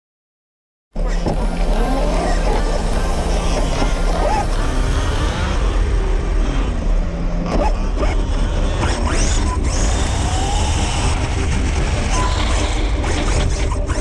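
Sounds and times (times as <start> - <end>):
motor whining: 1.0 - 13.6
rc car motor rumbling: 1.0 - 14.0.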